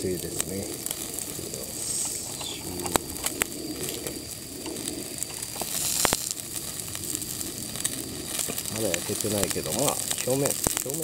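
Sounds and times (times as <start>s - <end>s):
food sizzling on charcoal grill: 0.0s - 11.0s
sharp clicks and crackles: 0.0s - 11.0s.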